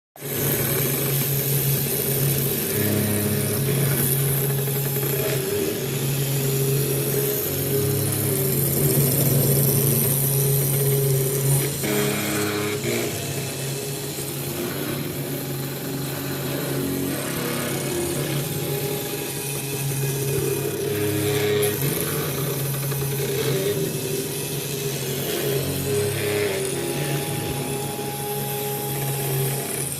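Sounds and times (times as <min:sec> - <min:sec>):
router motors humming: 0:00.2 - 0:29.9.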